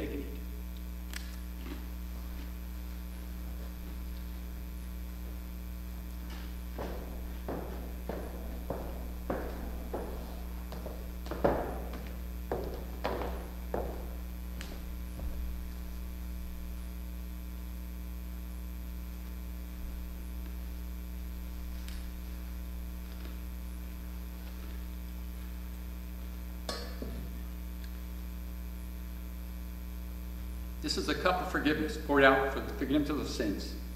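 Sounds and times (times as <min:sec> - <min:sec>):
electrical mains hum: 0:00.0 - 0:33.9.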